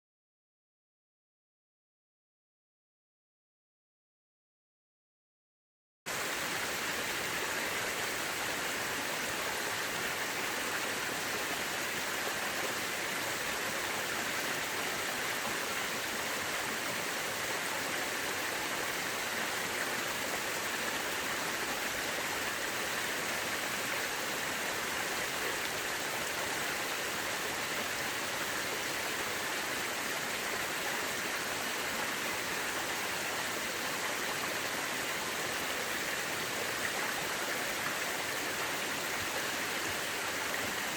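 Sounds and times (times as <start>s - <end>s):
river water rushing: 6.1s - 40.9s.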